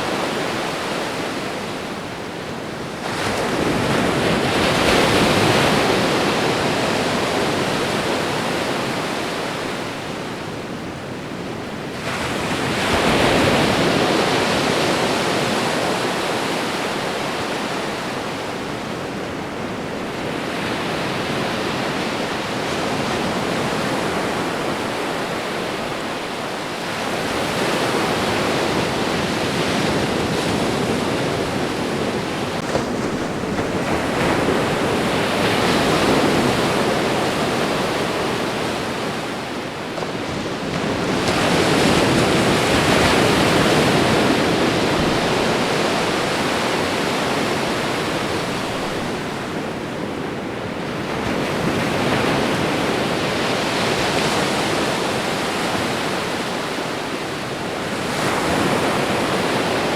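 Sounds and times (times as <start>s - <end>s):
ocean surf washing ashore: 0.0s - 59.9s.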